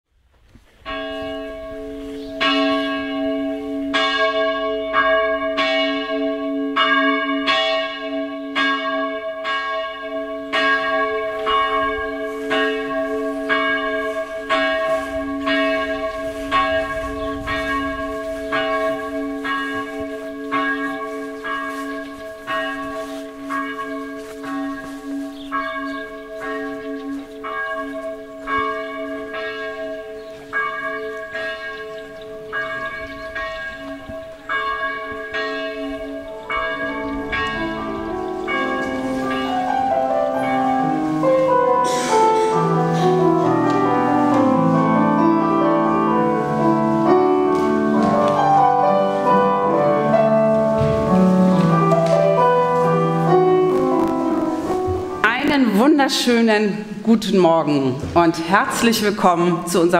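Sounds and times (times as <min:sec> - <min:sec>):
church bells ringing: 0:00.7 - 0:59.9.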